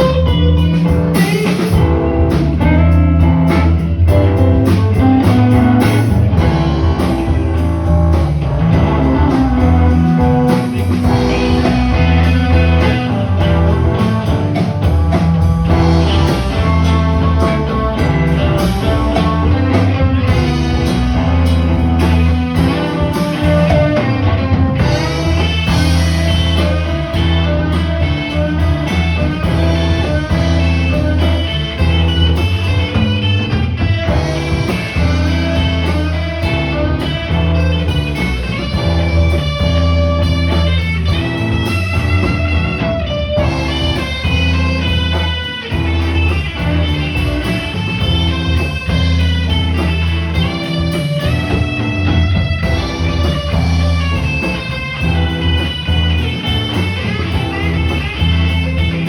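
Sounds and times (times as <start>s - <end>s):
guitar music: 0.0s - 59.0s
steady low bass line: 0.0s - 59.0s.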